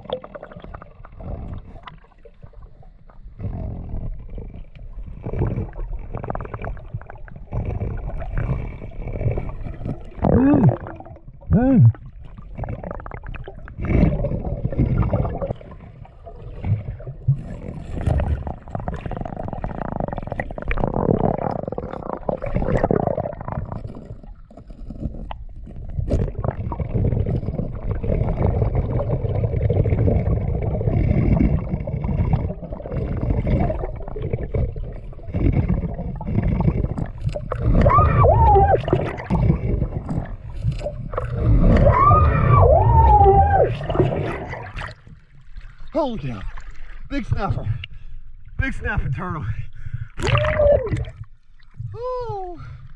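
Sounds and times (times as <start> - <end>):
underwater rumbling and gurgling: 0.0 - 52.9.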